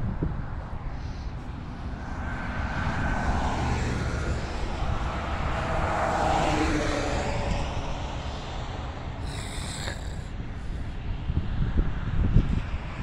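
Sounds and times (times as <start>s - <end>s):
vehicles passing by: 0.0s - 13.0s.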